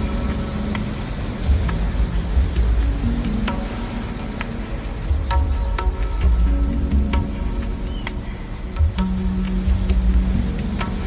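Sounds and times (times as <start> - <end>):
soft low drum beats: 0.0 - 11.0
steady wind-like hiss: 0.0 - 11.0.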